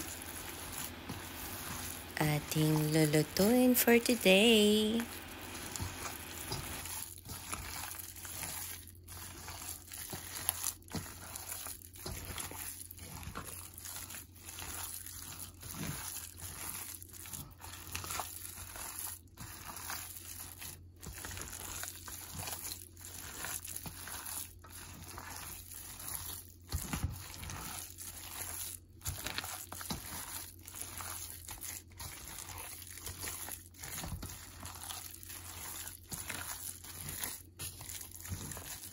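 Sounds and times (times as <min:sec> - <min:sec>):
hand squelching minced meat: 0:00.0 - 0:38.9.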